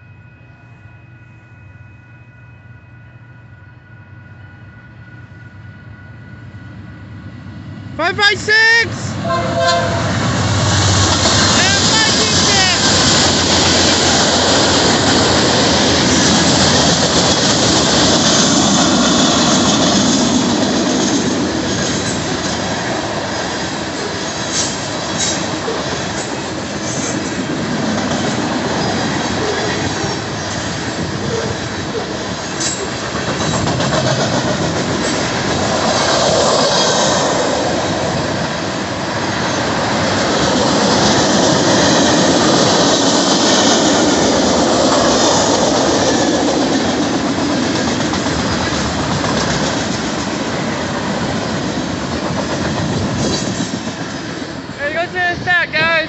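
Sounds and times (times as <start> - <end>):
train wheels rumbling on rails: 4.9 - 56.0.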